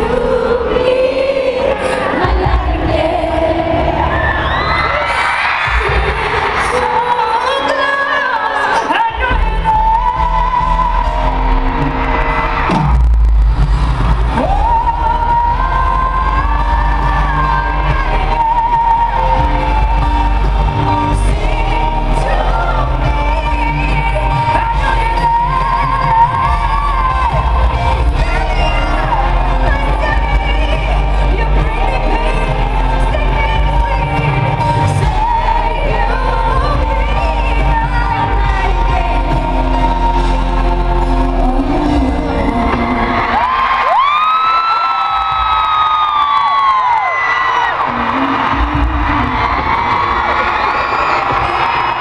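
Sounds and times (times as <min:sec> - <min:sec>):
woman singing live: 0:00.0 - 0:11.5, 0:14.3 - 0:50.4
pop band with heavy bass: 0:00.0 - 0:52.0.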